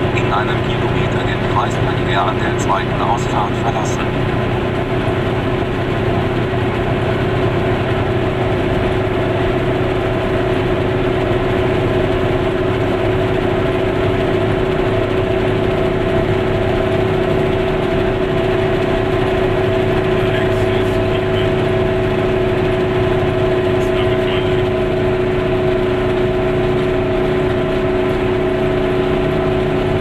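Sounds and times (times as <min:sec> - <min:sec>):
road noise: 0:00.0 - 0:30.0
small car engine droning: 0:00.0 - 0:30.0.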